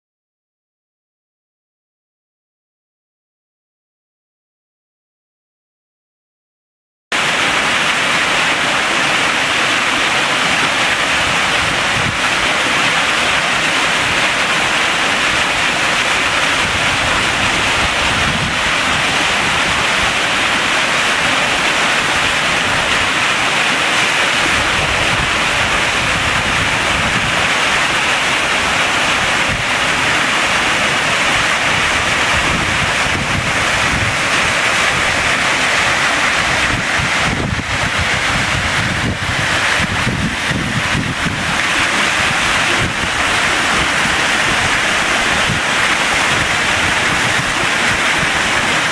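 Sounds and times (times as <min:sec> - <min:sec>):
waterfall rushing over rocks: 0:07.1 - 0:48.9.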